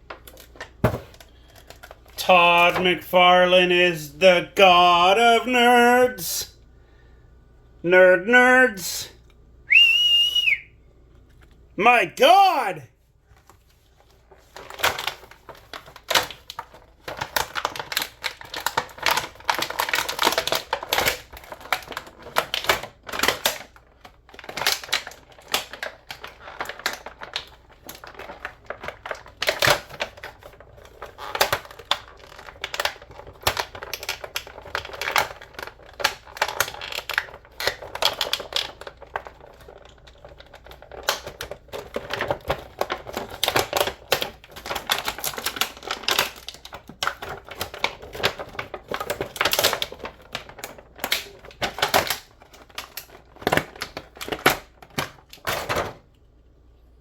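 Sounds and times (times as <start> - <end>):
packaging clicks and crackles: 0.0 - 3.1, 13.4 - 56.2.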